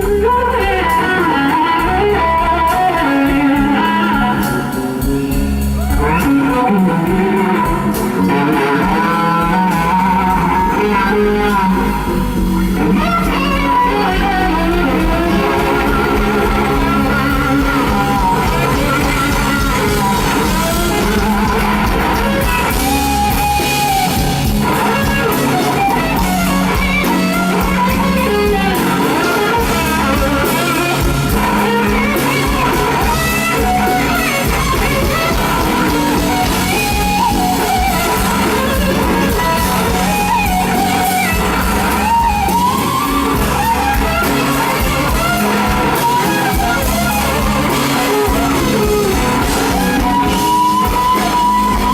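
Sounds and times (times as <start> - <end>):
blues band playing: 0.0 - 51.9
electric guitar lead: 0.0 - 51.9.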